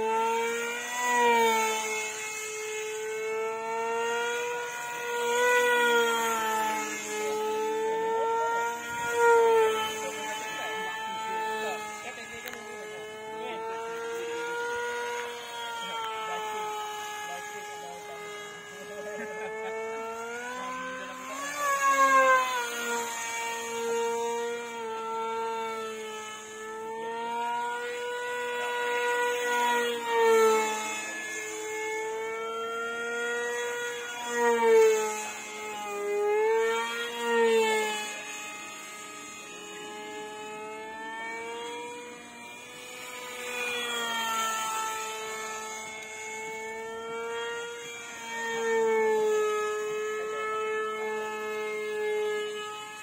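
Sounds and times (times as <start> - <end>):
electric motor and propeller whine: 0.0 - 53.0.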